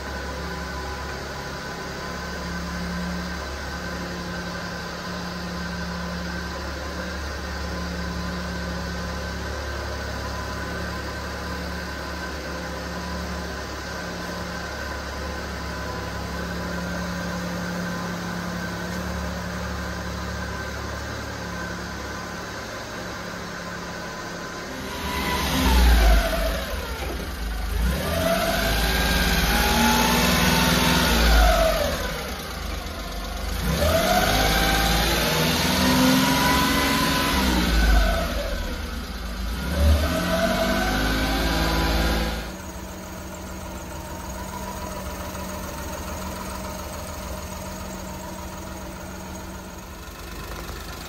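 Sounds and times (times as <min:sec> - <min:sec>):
small engine idling: 0:00.0 - 0:51.0.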